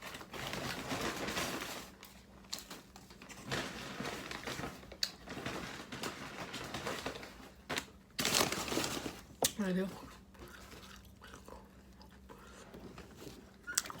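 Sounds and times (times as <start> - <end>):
food wrappers rustling and crinkling: 0.0 - 14.0.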